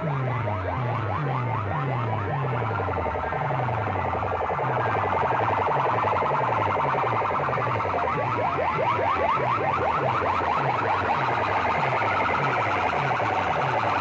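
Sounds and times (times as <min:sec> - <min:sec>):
rapid rising electronic chirps: 0:01.6 - 0:14.0.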